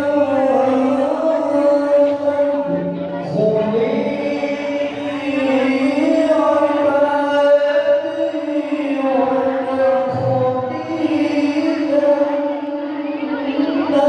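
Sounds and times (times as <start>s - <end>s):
man chanting over loudspeakers: 0.0s - 14.0s.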